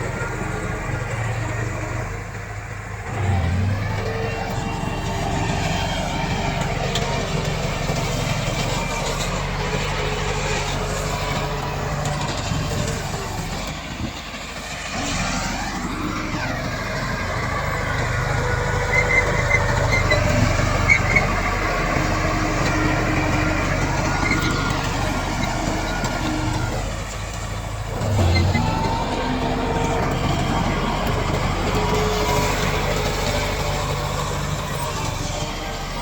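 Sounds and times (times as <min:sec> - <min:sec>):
bulldozer diesel engine under load: 0:00.0 - 0:36.0.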